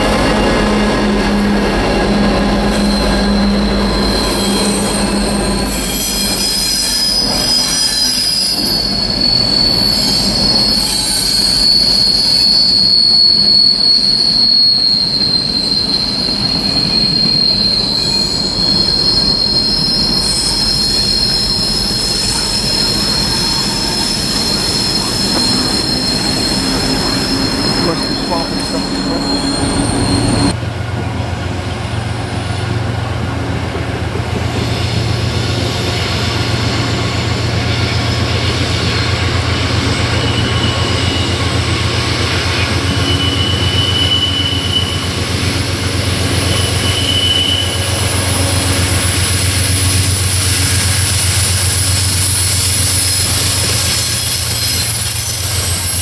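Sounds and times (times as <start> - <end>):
diesel locomotive engines rumbling: 0.0 - 56.0
train wheels squealing: 1.2 - 30.6, 34.3 - 56.0.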